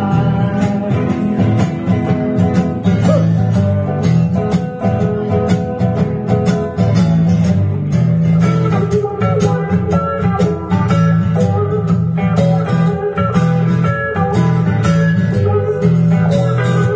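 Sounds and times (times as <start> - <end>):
acoustic guitar: 0.0 - 16.9
electric guitar blues: 0.0 - 16.9.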